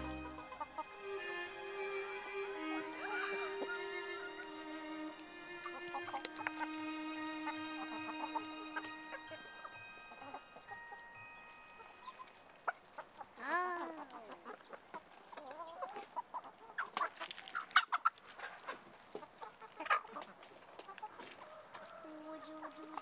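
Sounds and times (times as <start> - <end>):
hens clucking: 0.0 - 11.1, 11.8 - 23.0.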